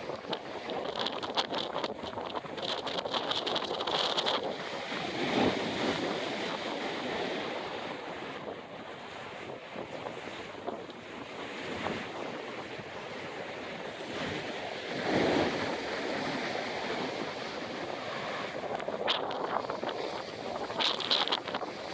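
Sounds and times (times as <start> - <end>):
wind blowing over microphone: 0.0 - 21.9.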